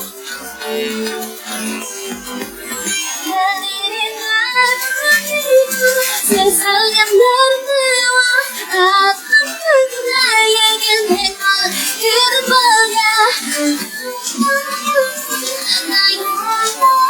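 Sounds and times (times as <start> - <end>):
backing vocal harmonies: 0.0 - 17.0
woman singing pop melody: 0.0 - 17.0.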